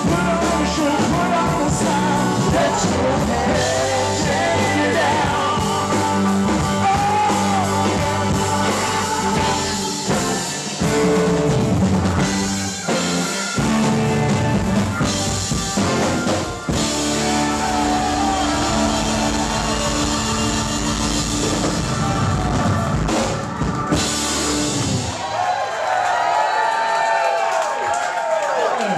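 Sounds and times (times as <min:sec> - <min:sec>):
live rock band playing: 0:00.0 - 0:25.4.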